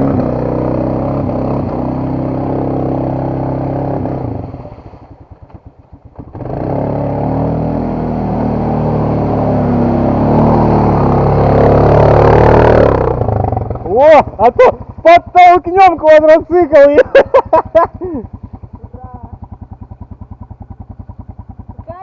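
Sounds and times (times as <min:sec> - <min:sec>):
dirt bike engine revving: 0:00.0 - 0:05.2, 0:06.0 - 0:22.0.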